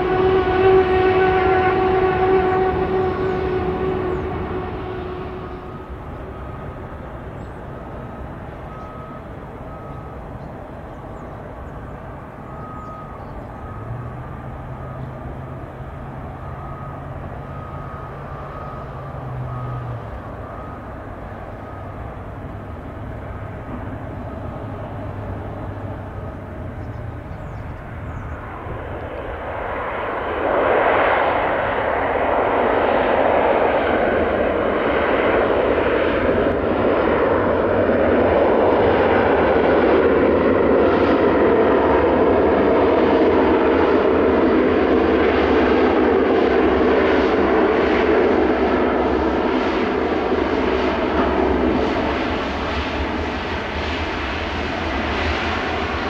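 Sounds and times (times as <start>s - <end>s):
turboprop aircraft engines: 0.0s - 56.0s.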